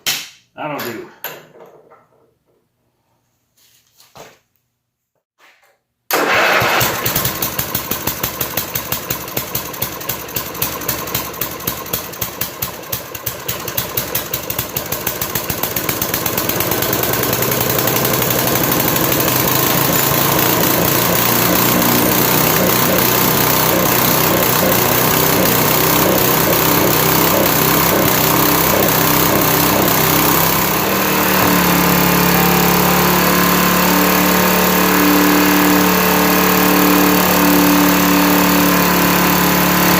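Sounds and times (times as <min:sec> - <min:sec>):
lawn tractor engine running: 0:06.1 - 0:39.9.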